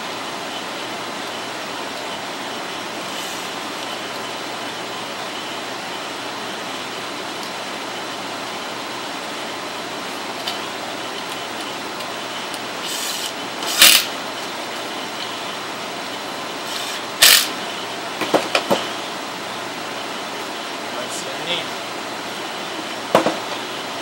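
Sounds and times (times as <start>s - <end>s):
steady fan-like hiss: 0.0s - 24.0s.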